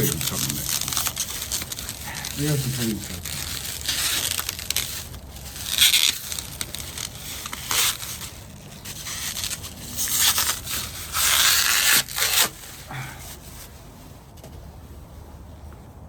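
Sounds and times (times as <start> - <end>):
packing material crinkling and tearing: 0.0 - 13.8.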